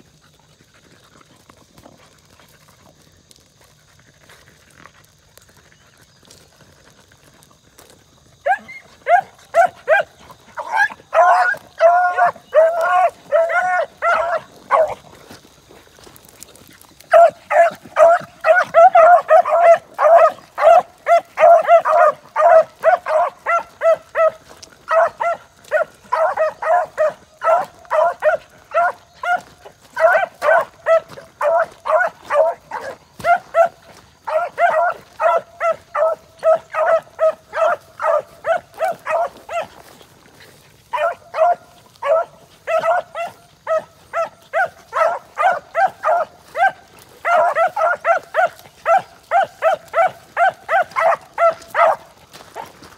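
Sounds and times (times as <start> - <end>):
hounds baying: 7.8 - 52.9.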